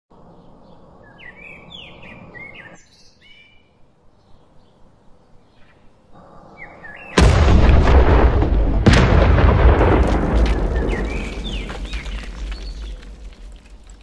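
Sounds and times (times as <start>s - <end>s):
birds chirping: 0.1s - 7.5s, 8.6s - 14.0s.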